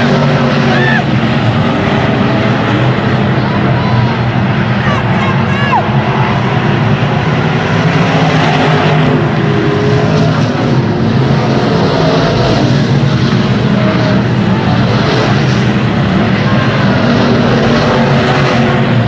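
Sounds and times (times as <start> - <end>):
racing car engine drone: 0.0 - 19.0.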